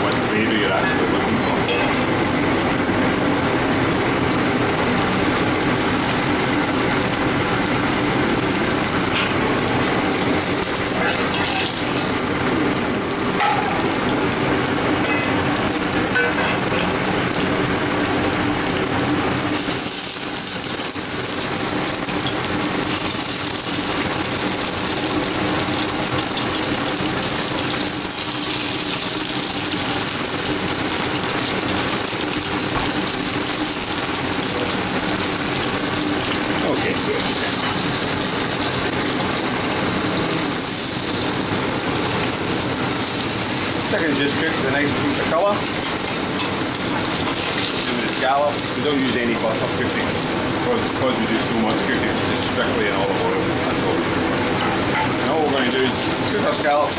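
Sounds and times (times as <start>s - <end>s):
food sizzling in hot oil: 0.1s - 56.9s.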